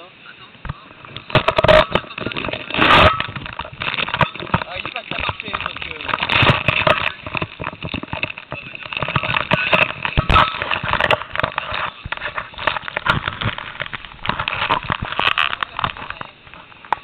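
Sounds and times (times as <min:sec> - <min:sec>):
rubbing and scraping on microphone: 0:00.6 - 0:17.0
sharp clicks and knocks: 0:00.6 - 0:17.0.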